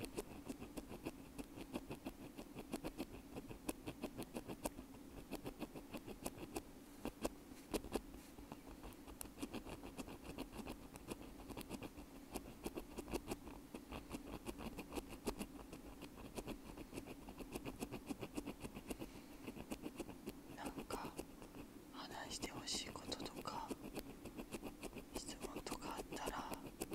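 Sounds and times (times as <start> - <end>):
ear pick scratching earphone: 0.0 - 21.7, 22.6 - 26.9.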